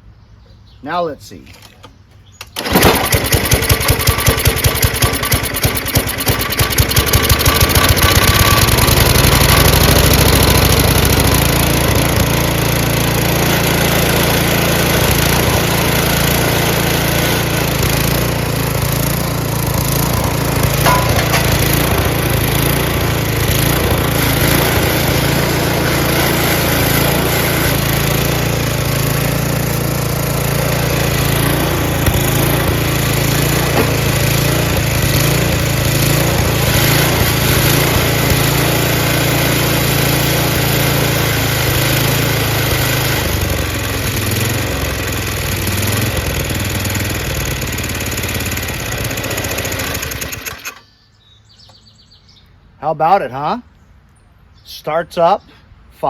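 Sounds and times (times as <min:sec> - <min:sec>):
snowblower engine running: 0:02.6 - 0:50.8.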